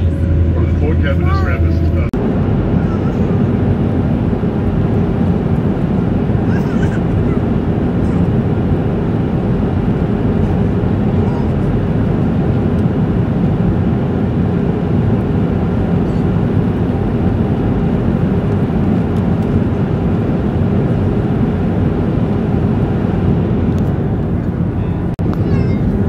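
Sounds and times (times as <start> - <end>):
jet airliner cabin roar: 0.0 - 26.0.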